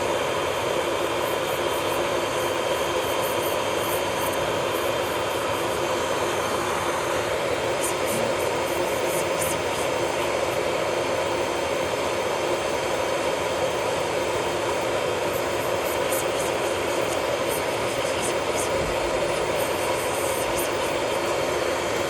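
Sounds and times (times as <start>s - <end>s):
small electric motor whirring: 0.0s - 22.0s.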